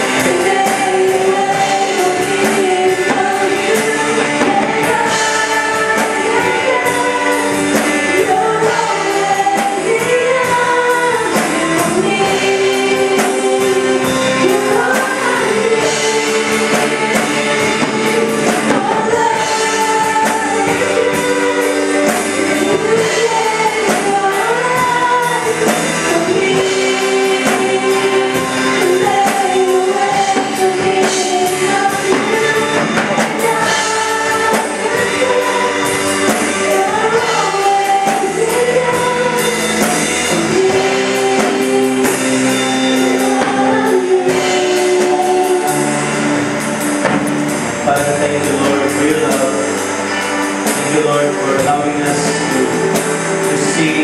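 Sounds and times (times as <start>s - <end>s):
worship song singing: 0.0s - 54.0s.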